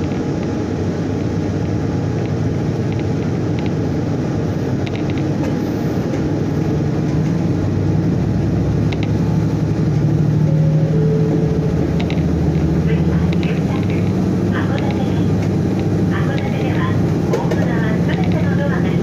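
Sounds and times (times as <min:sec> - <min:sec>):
train engine and wheels rumbling: 0:00.0 - 0:19.0.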